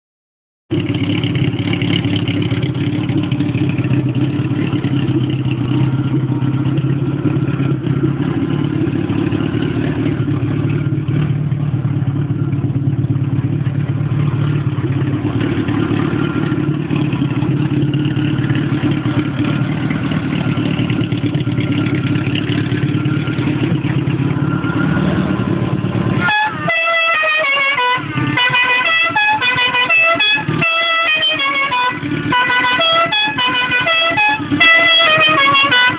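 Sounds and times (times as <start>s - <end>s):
car engine running: 0.7s - 35.9s.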